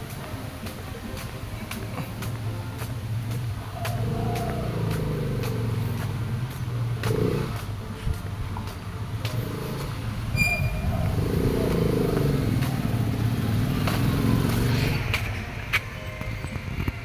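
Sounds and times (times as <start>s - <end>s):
vehicle engine passing: 1.6s - 15.7s.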